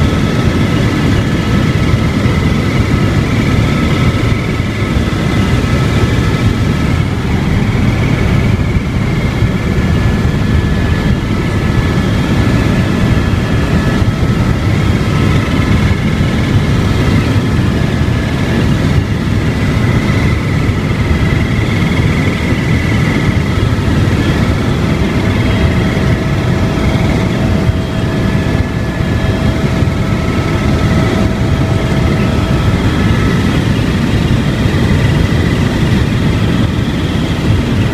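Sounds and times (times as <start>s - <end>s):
helicopter rotor drone: 0.0s - 37.9s
turbine high whine: 0.0s - 37.9s.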